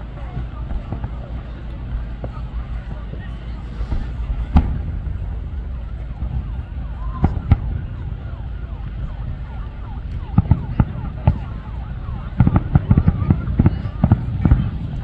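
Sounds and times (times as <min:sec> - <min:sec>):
fireworks bursting: 0:00.0 - 0:15.0
faint siren wailing: 0:02.4 - 0:15.0.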